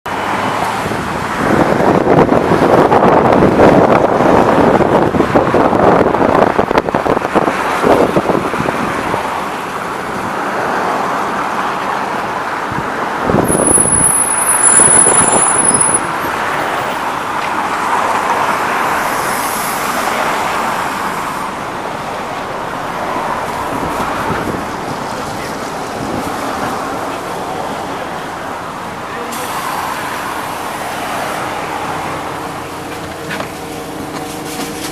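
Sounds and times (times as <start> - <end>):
bus engine and road noise: 0.0 - 34.9.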